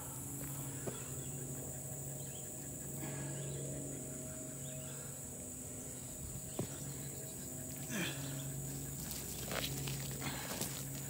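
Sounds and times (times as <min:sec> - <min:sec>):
high-pitched insect drone: 0:00.0 - 0:11.0
low steady hum: 0:00.0 - 0:11.0.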